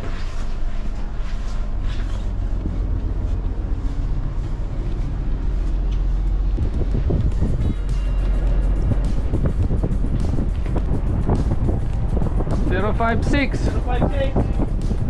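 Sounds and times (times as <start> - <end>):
low rumble of ship: 0.0 - 15.0
wind buffeting microphone: 1.0 - 15.0.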